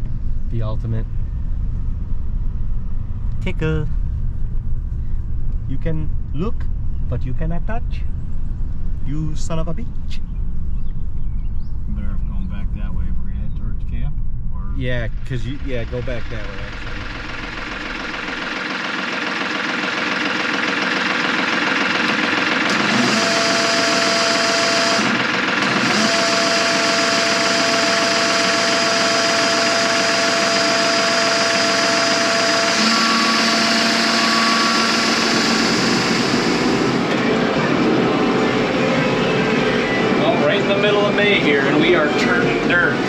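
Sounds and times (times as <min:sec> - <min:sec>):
engine running: 0:00.0 - 0:43.0
steady whine: 0:00.0 - 0:43.0.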